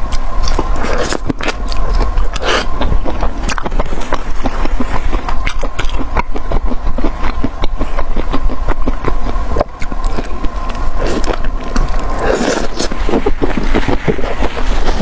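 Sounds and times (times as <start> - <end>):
chewing mouth sounds: 0.0 - 15.0
steady low hum: 0.0 - 15.0.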